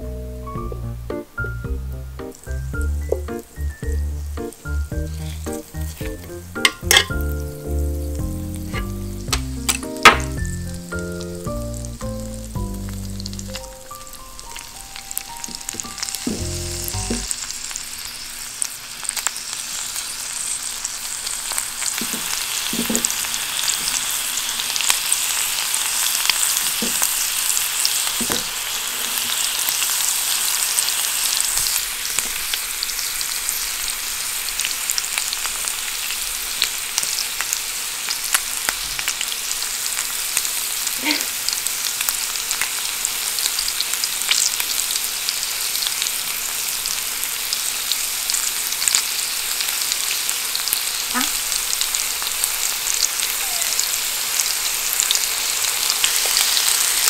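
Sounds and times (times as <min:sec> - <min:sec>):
fish sizzling in butter: 0:02.2 - 0:57.0.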